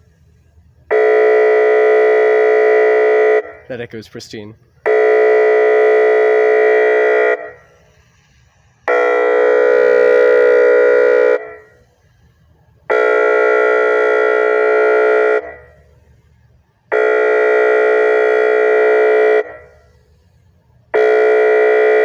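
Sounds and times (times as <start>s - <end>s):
electronic siren air horn tone: 0.8s - 3.7s, 4.7s - 22.0s.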